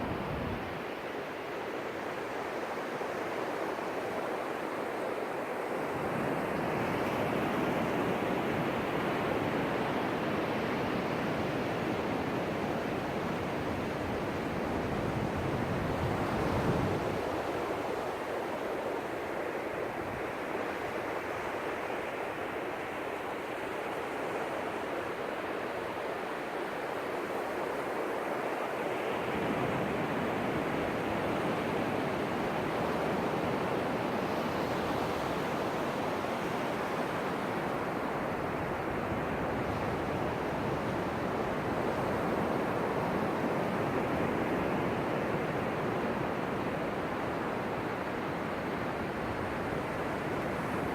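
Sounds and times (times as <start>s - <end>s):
ocean waves washing onto beach: 0.0s - 50.9s.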